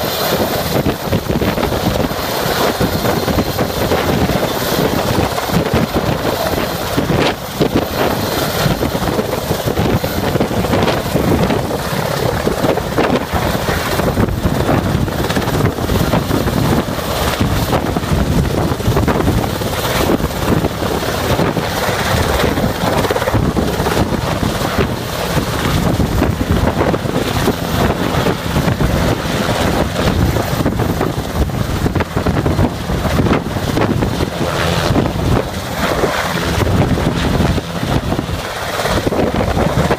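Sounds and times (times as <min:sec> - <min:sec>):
helicopter hovering: 0:00.0 - 0:39.9
wind rumble on microphone: 0:00.0 - 0:39.9.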